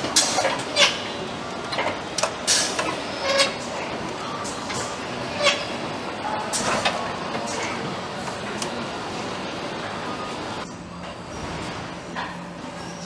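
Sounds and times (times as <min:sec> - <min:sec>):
factory background din: 0:00.0 - 0:13.0.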